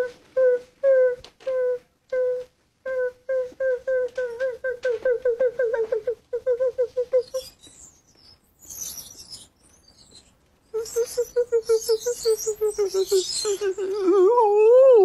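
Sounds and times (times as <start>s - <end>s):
faint high-pitched chirps: 1.5s - 14.4s.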